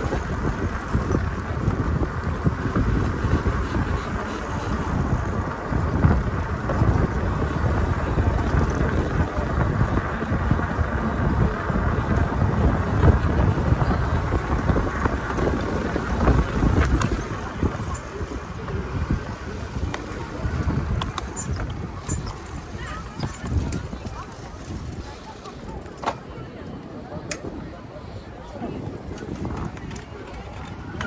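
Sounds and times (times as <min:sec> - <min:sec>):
bicycle rolling along path: 0:00.0 - 0:31.0
wind buffeting microphone: 0:00.0 - 0:31.0.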